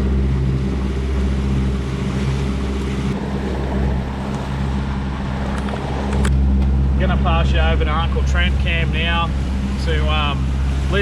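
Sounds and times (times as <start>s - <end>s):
boat motor running: 0.0s - 11.0s
water noise: 0.0s - 11.0s
wind: 0.0s - 11.0s.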